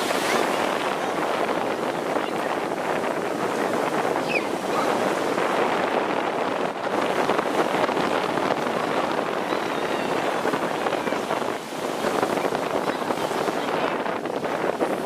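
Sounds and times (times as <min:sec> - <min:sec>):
breaking surf: 0:00.0 - 0:15.0
wind on the microphone: 0:00.0 - 0:15.0.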